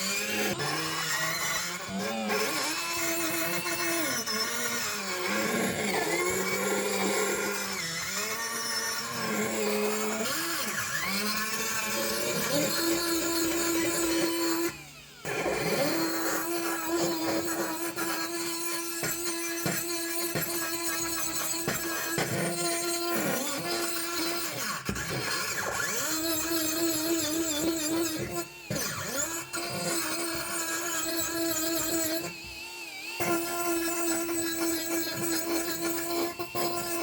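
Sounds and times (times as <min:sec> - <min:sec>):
electric power tool motor: 0:00.0 - 0:37.0.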